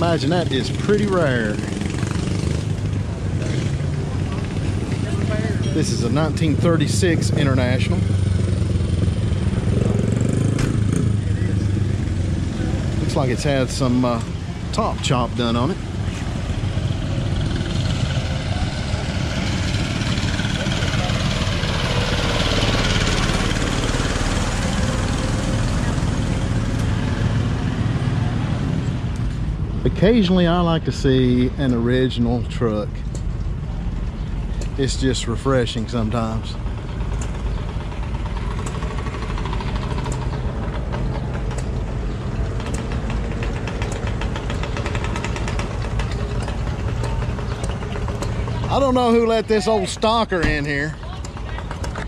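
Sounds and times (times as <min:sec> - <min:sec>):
engine idling: 0:00.0 - 0:52.0.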